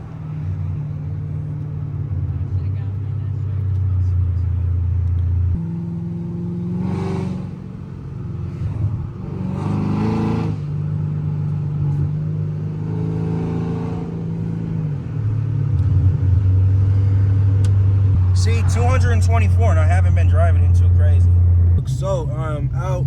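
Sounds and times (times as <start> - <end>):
car engine running while driving: 0.0 - 23.0.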